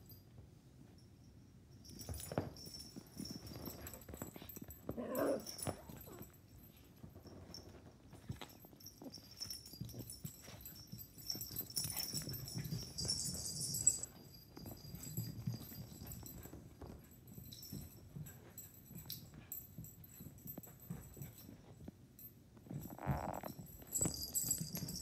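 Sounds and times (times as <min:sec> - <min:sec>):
paws scrambling on carpet: 0:01.8 - 0:22.0, 0:22.6 - 0:25.0
rustling and scuffling: 0:01.8 - 0:25.0.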